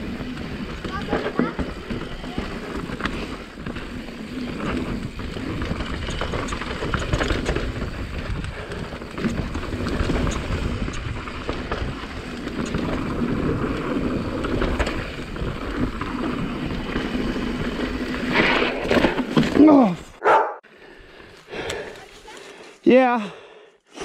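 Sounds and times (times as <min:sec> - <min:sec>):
bike rattling with small clicks: 0:00.0 - 0:19.9
tyres rolling over dirt and stones: 0:00.0 - 0:20.2.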